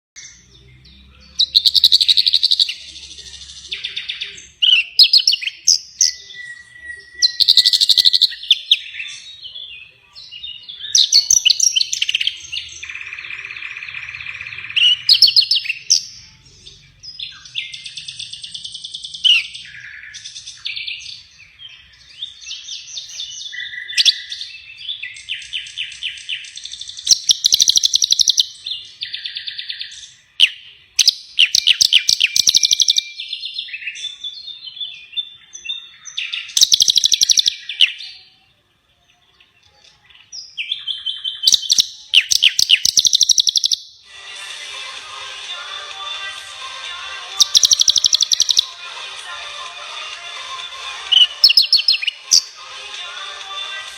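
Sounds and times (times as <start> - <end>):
songbird singing loudly: 0.2 - 44.1, 47.3 - 48.8, 51.0 - 52.7.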